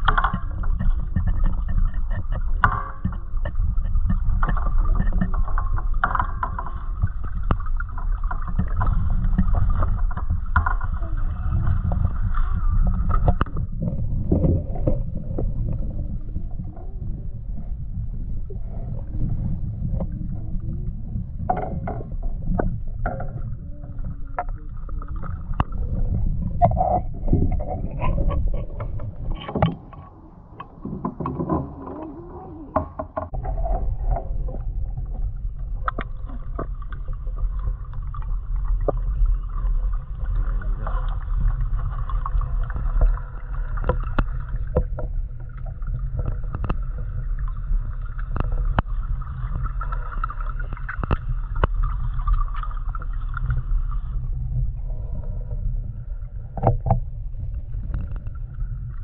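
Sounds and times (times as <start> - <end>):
knocks and water splashes: 0.0 - 16.9, 21.4 - 54.2
boat engine low rumble: 0.0 - 59.0.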